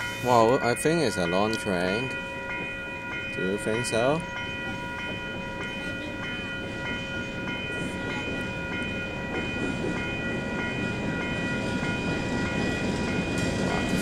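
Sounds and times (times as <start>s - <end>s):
diesel locomotives rumbling: 0.0s - 14.0s
level crossing alarm bell: 0.0s - 14.0s.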